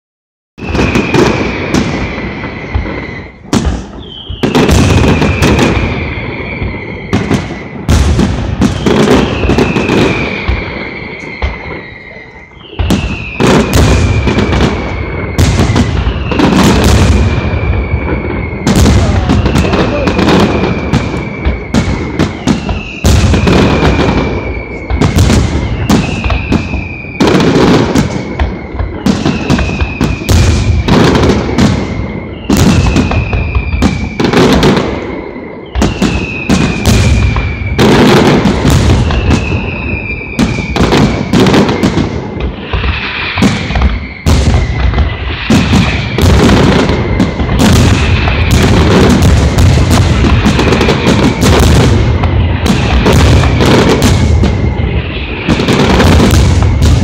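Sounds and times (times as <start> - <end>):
fireworks bursting and crackling: 0.6 - 57.0.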